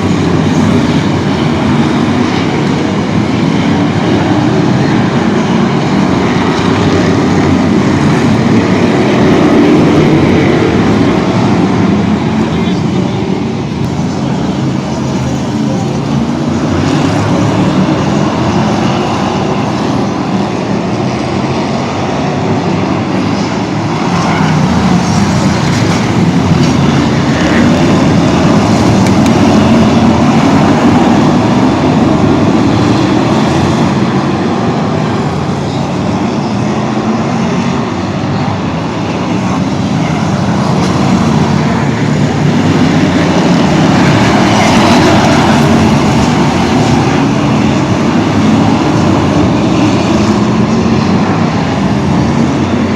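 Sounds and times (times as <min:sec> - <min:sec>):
vehicle engine and road rumble: 0:00.0 - 0:52.9.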